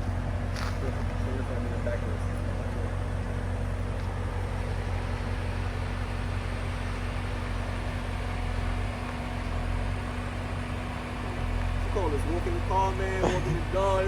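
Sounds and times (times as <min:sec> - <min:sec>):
car engine low hum: 0:00.0 - 0:14.0.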